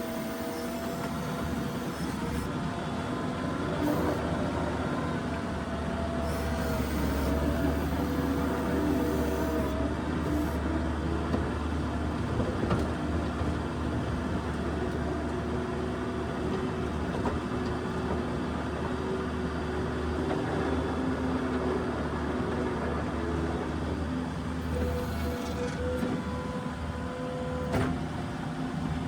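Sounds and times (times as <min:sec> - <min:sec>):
diesel engine running: 0:00.0 - 0:28.4.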